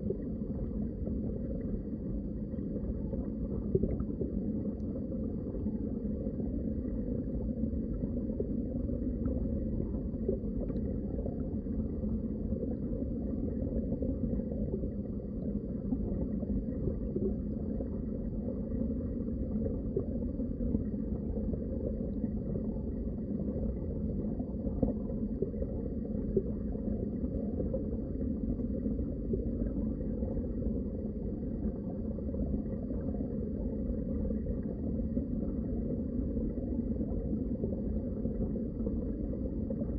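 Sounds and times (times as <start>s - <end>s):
muffled underwater water rumble: 0.0s - 39.9s
water gurgling: 0.0s - 39.9s.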